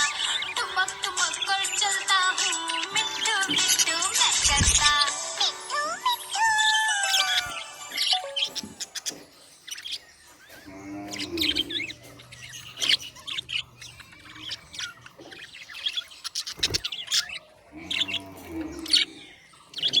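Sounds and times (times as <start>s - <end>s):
budgerigars chirping: 0.0s - 20.0s.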